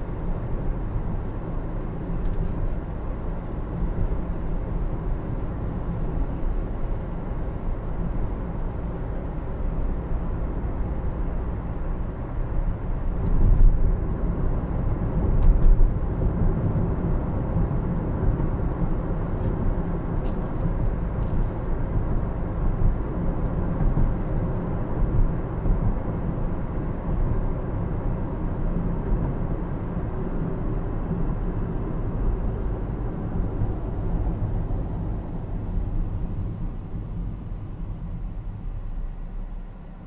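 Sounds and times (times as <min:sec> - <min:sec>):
tyre and road rumble in car cabin: 0:00.0 - 0:40.0.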